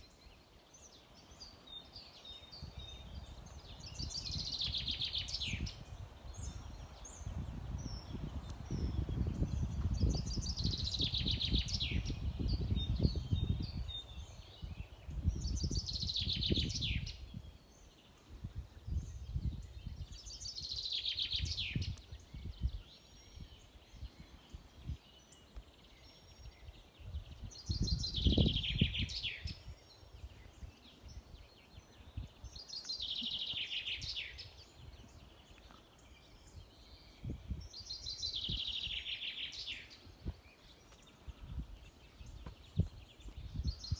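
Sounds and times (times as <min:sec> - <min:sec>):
songbird singing falling notes: 0:00.0 - 0:43.9.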